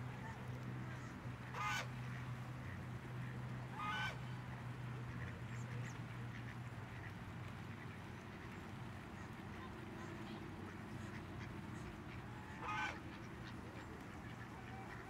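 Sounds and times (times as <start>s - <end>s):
steady low hum: 0.0s - 15.0s
waterfowl calls: 0.1s - 15.0s.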